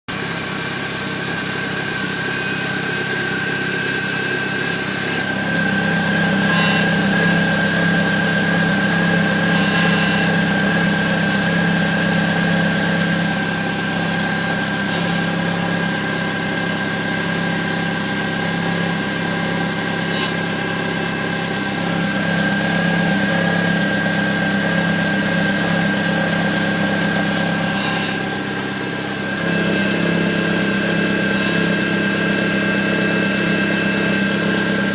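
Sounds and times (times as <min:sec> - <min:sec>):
car engine idling: 0:00.1 - 0:34.9
high-pitched metallic whine: 0:00.1 - 0:34.9.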